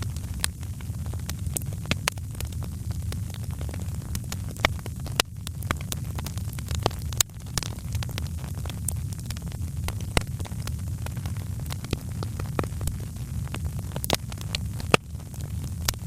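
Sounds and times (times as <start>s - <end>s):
low rumble of flames: 0.0s - 16.0s
wood fire popping and snapping: 0.0s - 16.0s.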